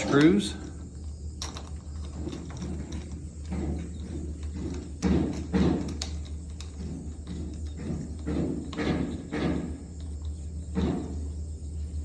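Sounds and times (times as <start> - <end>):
metal door-knob parts knocking: 1.4 - 11.2.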